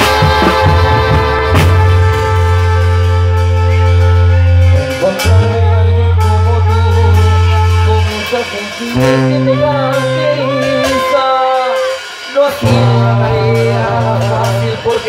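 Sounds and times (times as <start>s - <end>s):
tuba low bass notes: 0.0s - 12.0s, 12.6s - 15.0s
brass band playing: 0.0s - 15.0s.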